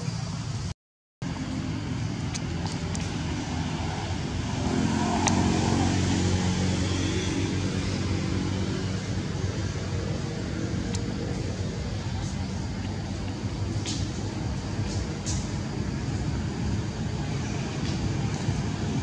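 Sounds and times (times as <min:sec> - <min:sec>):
vehicle engine running: 0:01.2 - 0:19.0.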